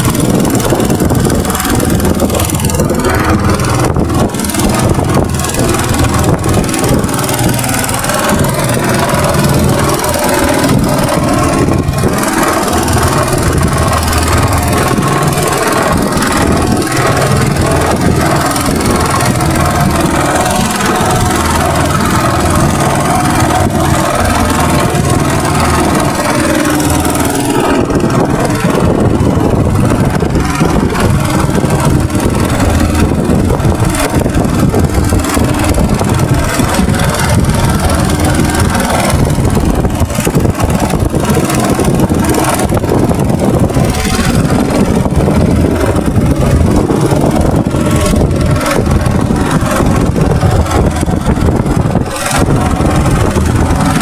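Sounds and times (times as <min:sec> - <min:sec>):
boat engine running: 0:00.0 - 0:54.0
rush of water and air: 0:00.0 - 0:54.0.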